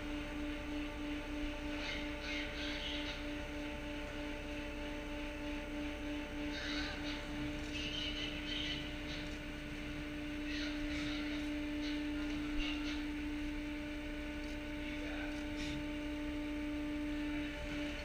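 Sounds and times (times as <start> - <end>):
droning machinery hum: 0.0 - 18.0
noisy rumble: 0.0 - 18.0.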